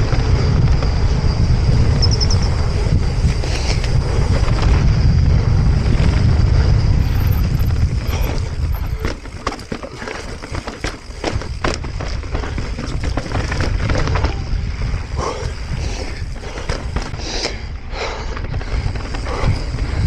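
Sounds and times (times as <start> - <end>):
bike rattling over rough ground: 0.0 - 20.0
wind buffeting microphone: 0.0 - 20.0.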